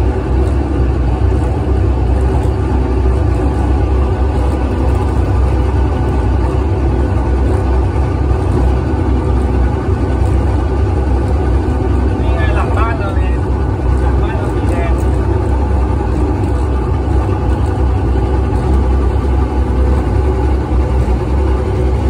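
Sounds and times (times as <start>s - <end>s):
tram engine drone and rumble: 0.0s - 22.0s.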